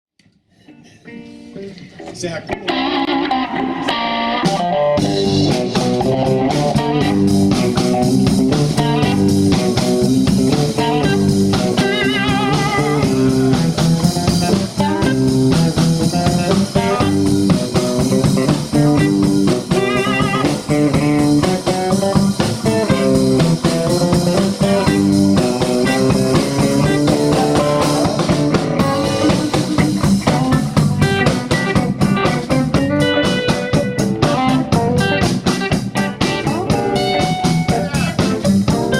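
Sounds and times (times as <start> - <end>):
lead guitar with vibrato: 0.6 - 38.9
live blues band playing: 0.8 - 38.9.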